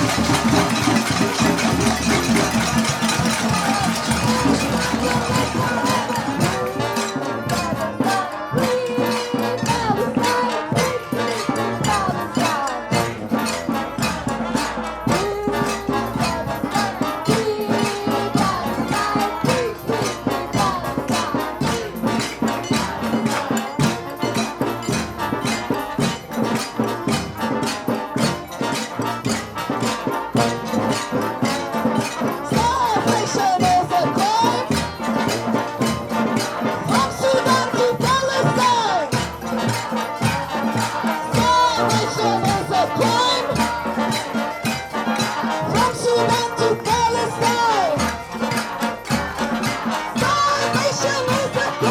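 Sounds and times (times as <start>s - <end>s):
crowd playing shakers and rattles: 0.0s - 51.9s.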